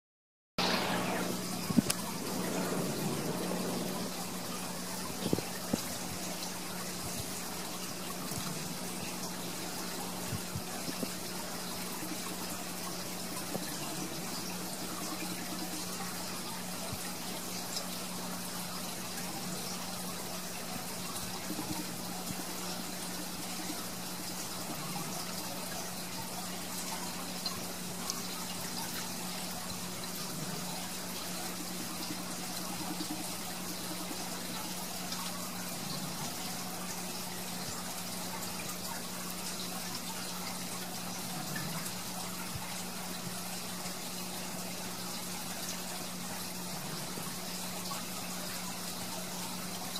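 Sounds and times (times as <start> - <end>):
low pump hum: 0.6 - 49.9
water trickling and splashing: 0.6 - 49.9.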